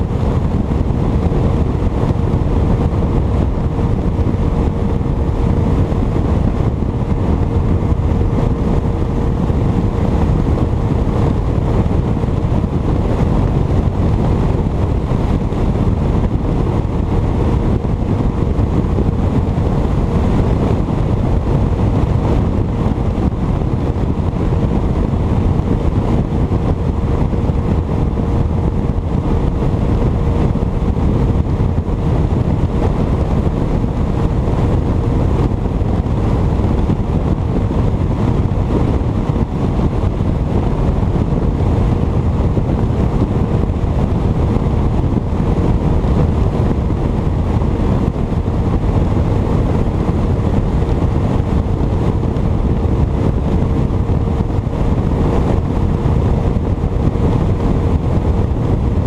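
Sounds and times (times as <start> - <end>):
outboard motor running: 0.0 - 59.0
wind buffeting the microphone: 0.0 - 59.0.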